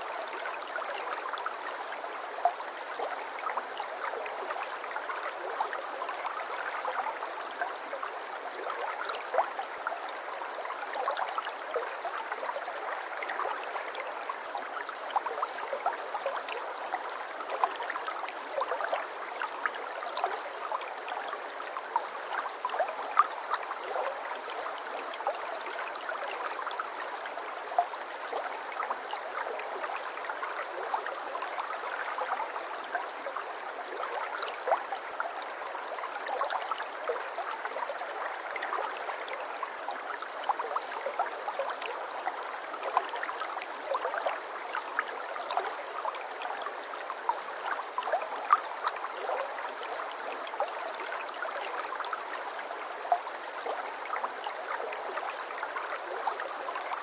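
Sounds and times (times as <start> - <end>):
brook babbling over stones: 0.0 - 57.0.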